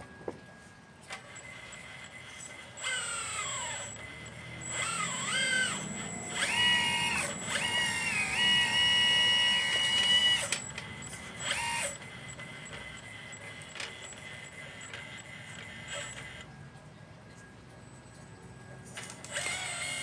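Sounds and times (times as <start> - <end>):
electric motors whining: 1.0 - 16.5, 19.0 - 20.0.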